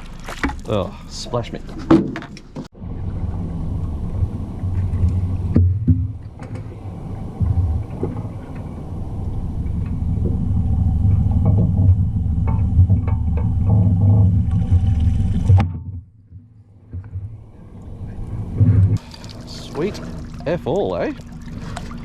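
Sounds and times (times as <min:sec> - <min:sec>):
motorboat engine rumble: 0:00.0 - 0:22.0
hull slapping waves: 0:02.7 - 0:15.6, 0:16.8 - 0:22.0.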